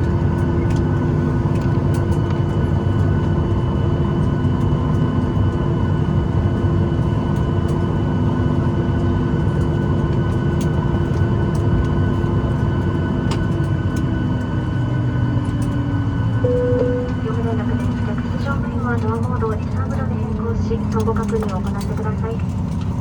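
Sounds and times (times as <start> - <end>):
jet engines humming in cabin: 0.0 - 23.0.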